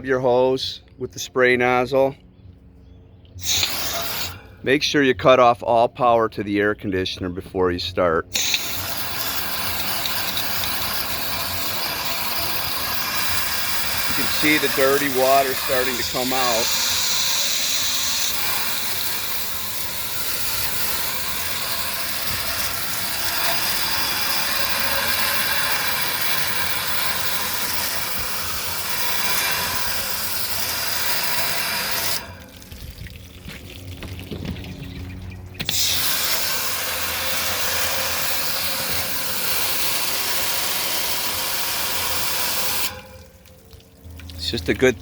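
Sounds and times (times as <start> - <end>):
hose nozzle spraying water: 3.4 - 4.5, 8.3 - 45.0.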